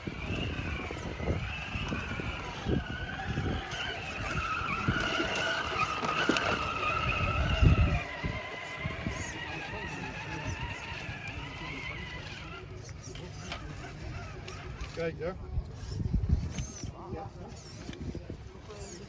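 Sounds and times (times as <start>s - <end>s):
electric motor and gearbox whining: 0.0s - 19.0s.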